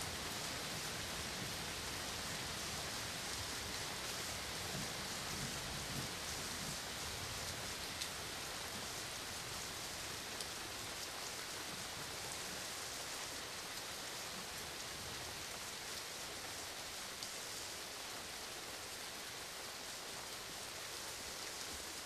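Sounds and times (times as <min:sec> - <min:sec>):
steady rainfall hissing: 0:00.0 - 0:22.0.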